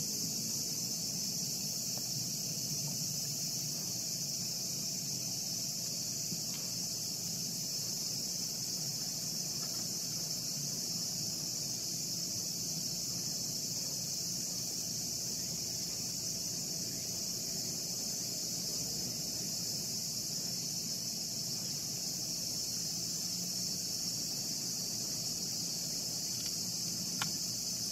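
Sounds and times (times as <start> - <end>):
high-pitched insect chorus: 0.0 - 27.9.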